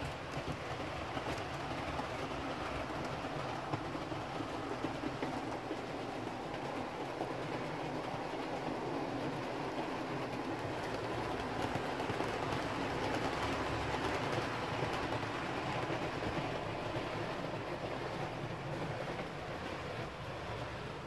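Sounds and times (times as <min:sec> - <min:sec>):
faint rapid clicking: 0:00.0 - 0:20.3
model trains running on track: 0:00.0 - 0:21.0.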